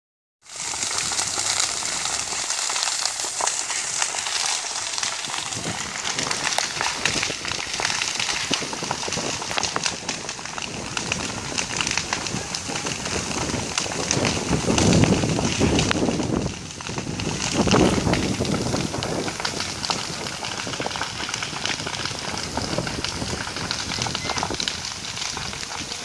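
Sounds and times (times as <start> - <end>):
fire crackling and popping: 0.4 - 26.0.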